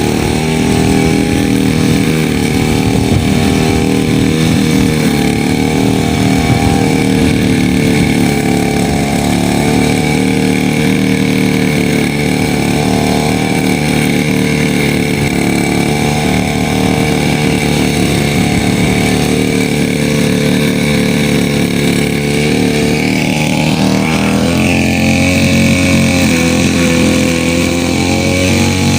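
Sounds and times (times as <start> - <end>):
grass cutter engine running: 0.0 - 28.9.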